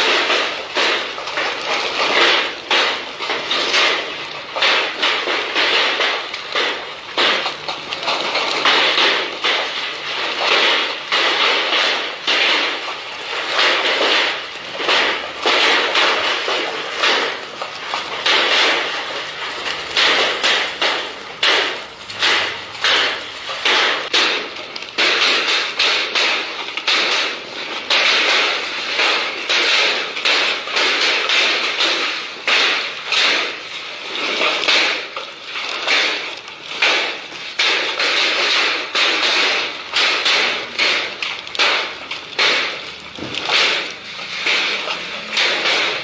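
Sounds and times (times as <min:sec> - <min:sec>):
hailstones clattering on hard surfaces: 0:00.0 - 0:46.0.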